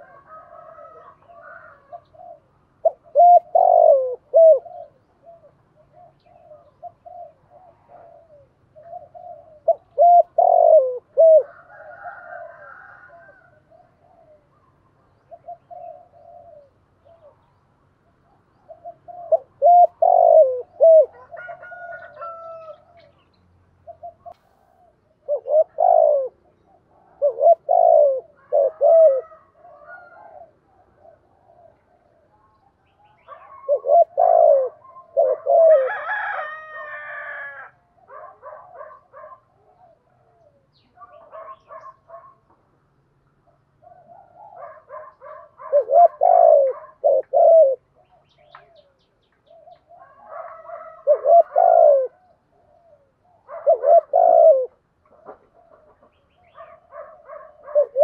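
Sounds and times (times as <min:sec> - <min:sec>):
dove cooing: 0:00.0 - 0:23.2, 0:23.8 - 0:42.6, 0:43.3 - 0:58.0.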